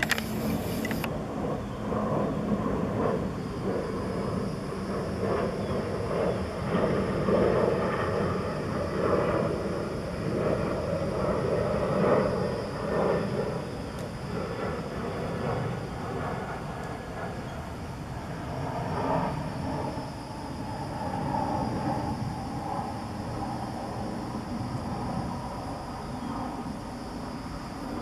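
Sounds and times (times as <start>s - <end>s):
outdoor background rumble: 0.0s - 28.0s.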